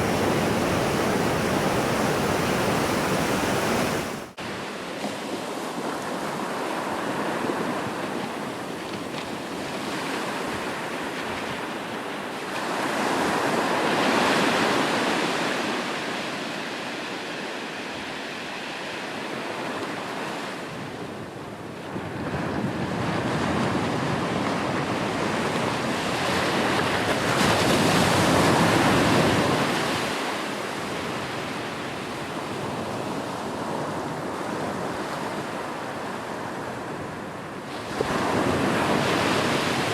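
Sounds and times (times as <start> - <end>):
ocean waves washing onto shore: 0.0 - 20.8, 21.5 - 39.9.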